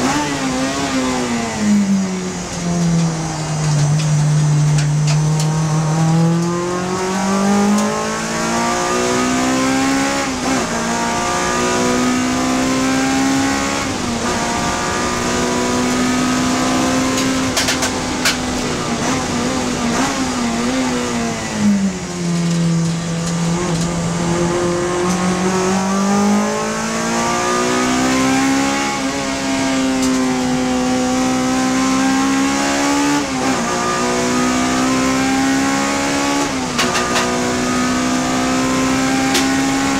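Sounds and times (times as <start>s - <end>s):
race car engine under load: 0.0s - 39.9s.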